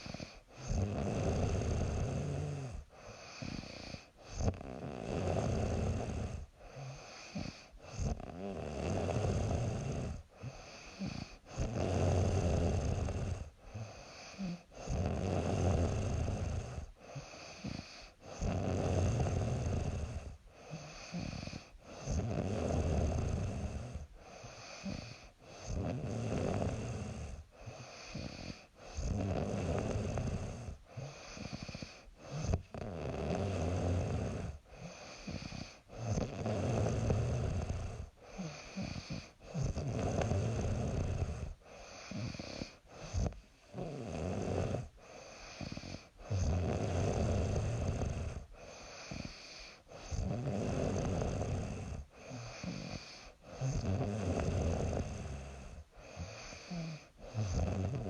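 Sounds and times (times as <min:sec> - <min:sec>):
woman snoring: 0:00.0 - 0:58.0.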